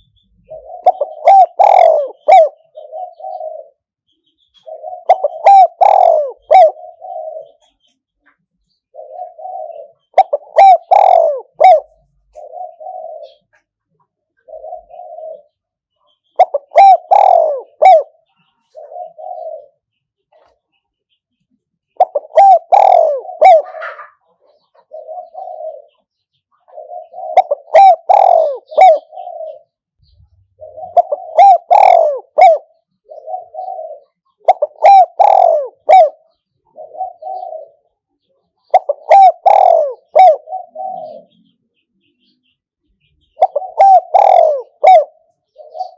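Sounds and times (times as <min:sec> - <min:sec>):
dove cooing: 0:00.0 - 0:07.9, 0:08.7 - 0:20.7, 0:21.9 - 0:42.3, 0:43.0 - 0:45.9.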